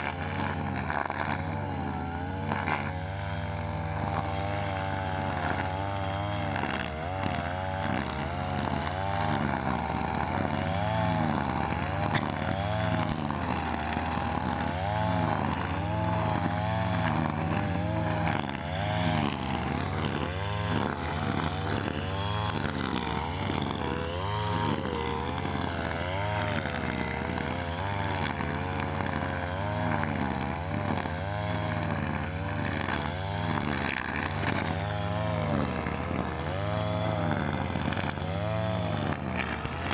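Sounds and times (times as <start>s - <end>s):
brush cutter engine cutting grass: 0.0s - 39.9s.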